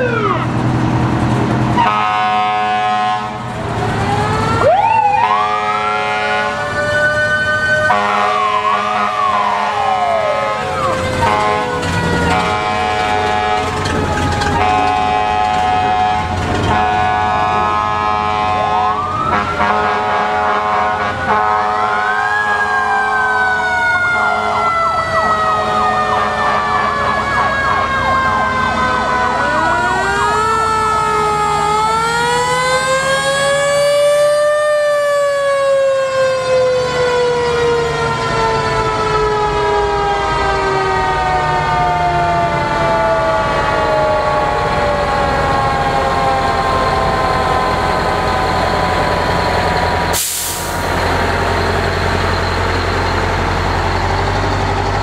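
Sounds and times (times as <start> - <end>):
fire truck sirens wailing: 0.0 - 55.0
truck engines running: 0.0 - 55.0.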